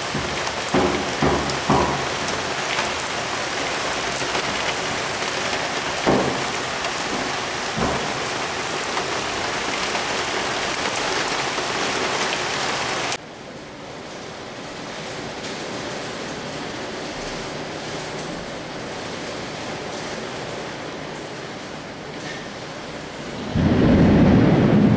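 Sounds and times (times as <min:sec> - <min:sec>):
heavy rain pouring: 0:00.0 - 0:24.9.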